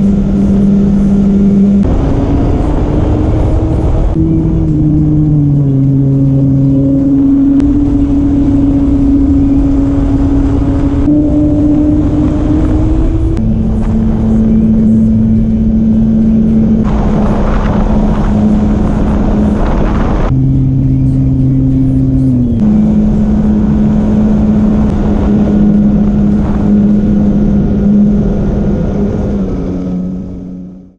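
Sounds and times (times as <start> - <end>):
propeller aircraft engine droning: 0.0 - 30.9
wind rush: 0.0 - 30.9.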